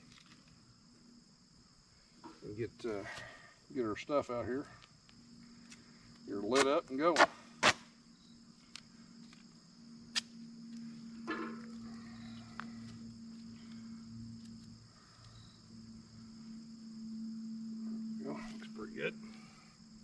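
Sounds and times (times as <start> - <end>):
crickets chirring: 0.0 - 20.0
low steady hum: 0.0 - 20.0.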